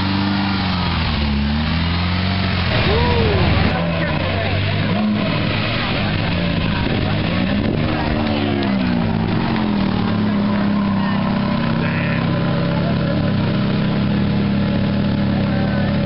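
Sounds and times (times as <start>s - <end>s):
sports car engine passing slowly: 0.0s - 16.0s.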